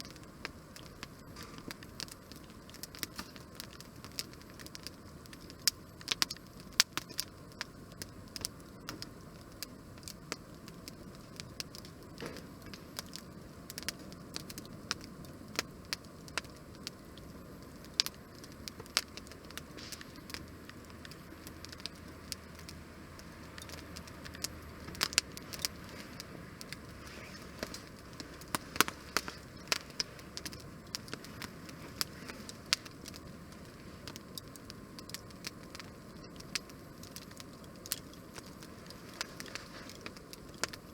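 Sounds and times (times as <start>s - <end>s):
fire hiss: 0.0s - 40.9s
wood fire crackling and popping: 0.0s - 40.9s.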